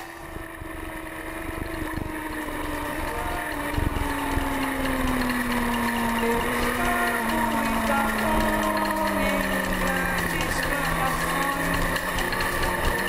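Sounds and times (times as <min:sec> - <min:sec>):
motorcycle engine running hard: 0:00.0 - 0:13.0.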